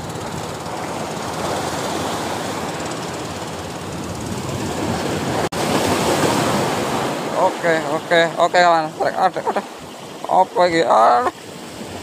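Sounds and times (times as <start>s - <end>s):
choppy seawater rushing: 0.0s - 12.0s
wind: 0.0s - 12.0s.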